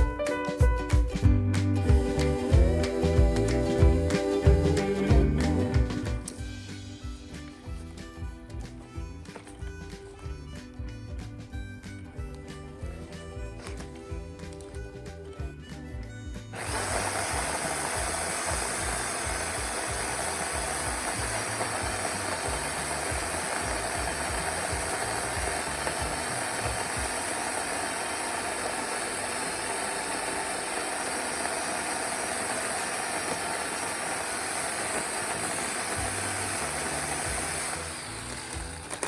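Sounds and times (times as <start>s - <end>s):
electric chainsaw cutting wood: 1.8s - 15.2s, 16.0s - 39.0s.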